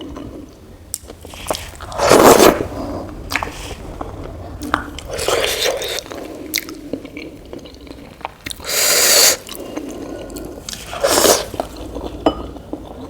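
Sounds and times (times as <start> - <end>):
loud slurps: 0.9 - 12.2
wet squishing mouth noises: 0.9 - 12.2.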